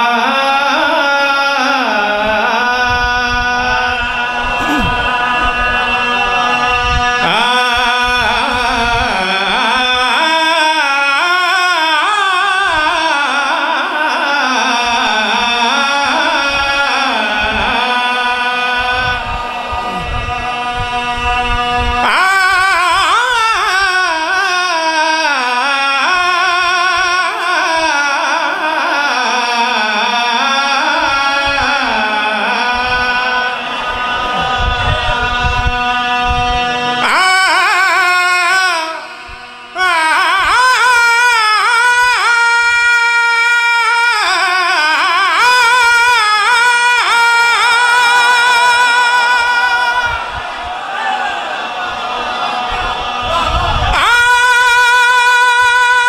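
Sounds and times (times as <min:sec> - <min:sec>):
steady held tones: 0:00.0 - 0:25.2, 0:30.1 - 0:43.1, 0:45.6 - 0:56.0
man chanting through loudspeakers: 0:00.0 - 0:56.0.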